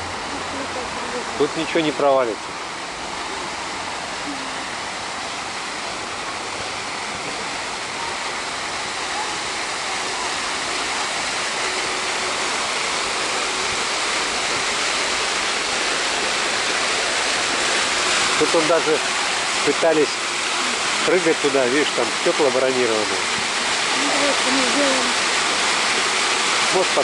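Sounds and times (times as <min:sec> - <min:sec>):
fountain water splashing: 0:00.0 - 0:27.0.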